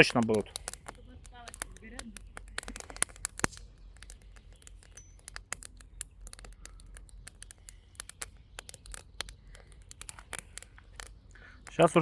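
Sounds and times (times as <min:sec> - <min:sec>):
campfire crackling and snapping: 0:00.0 - 0:12.0.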